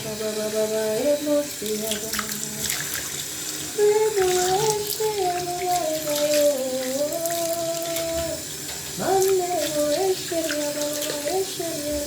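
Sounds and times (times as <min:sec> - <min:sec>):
person singing wordless melody: 0:00.0 - 0:02.8, 0:03.8 - 0:08.4, 0:09.0 - 0:12.0.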